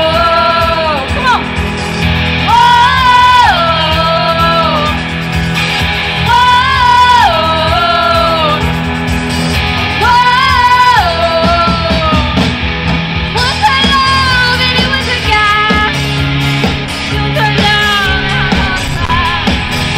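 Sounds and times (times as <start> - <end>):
live rock band playing: 0.0 - 19.9.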